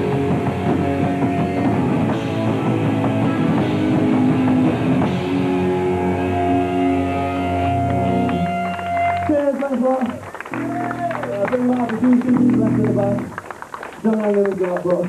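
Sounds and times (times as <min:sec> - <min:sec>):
drum kit: 0:00.0 - 0:09.3, 0:10.5 - 0:13.3
electric guitar: 0:00.0 - 0:14.0.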